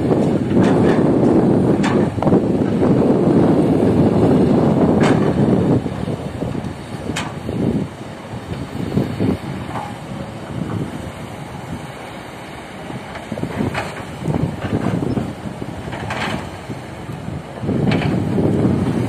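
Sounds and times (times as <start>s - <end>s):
diesel engine of heavy machinery: 0.0s - 19.0s.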